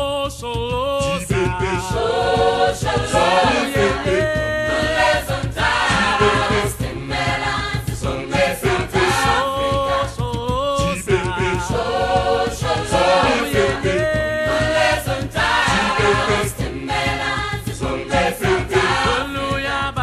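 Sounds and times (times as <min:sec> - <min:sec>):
steady beat: 0:00.0 - 0:20.0
choir singing: 0:01.3 - 0:20.0.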